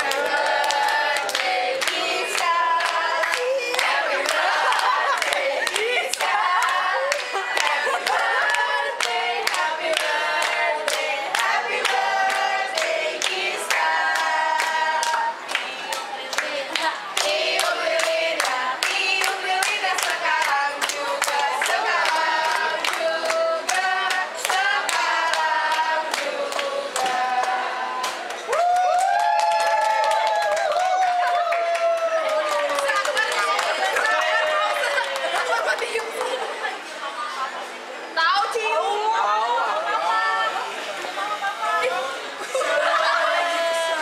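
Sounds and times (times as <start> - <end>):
group singing birthday song: 0.0 - 28.6, 32.1 - 37.0, 39.5 - 44.0.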